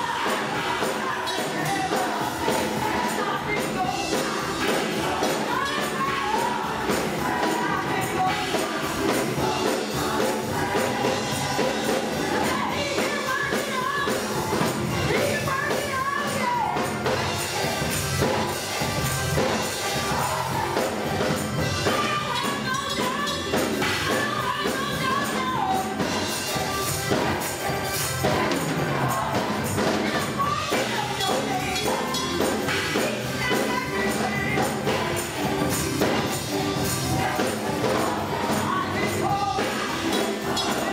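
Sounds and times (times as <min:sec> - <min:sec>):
gospel choir singing: 0:00.0 - 0:40.9
music accompaniment: 0:00.0 - 0:40.9.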